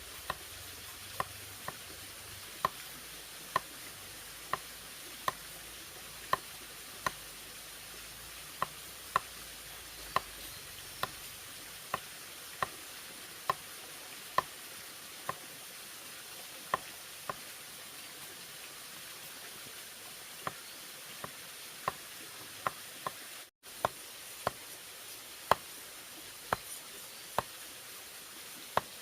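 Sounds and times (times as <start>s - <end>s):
background hiss: 0.0s - 16.3s, 16.9s - 29.0s.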